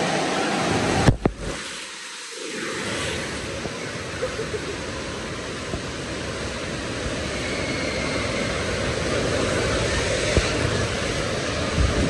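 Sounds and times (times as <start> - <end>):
water rushing down slide tube: 0.0 - 12.0.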